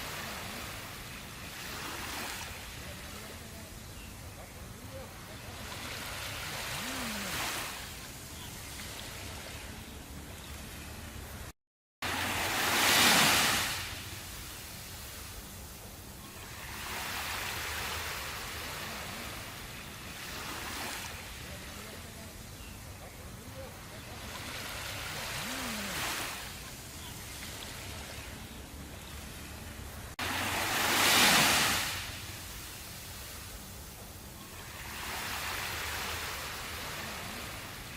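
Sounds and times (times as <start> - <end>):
ocean waves washing in: 0.0 - 3.9, 4.7 - 37.9
surf hiss: 0.0 - 37.9.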